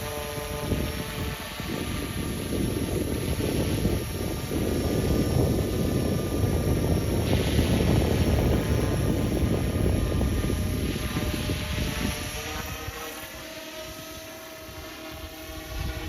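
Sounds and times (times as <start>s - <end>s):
model helicopter motor whine: 0.0s - 16.0s
wind rumble on microphone: 0.0s - 16.0s.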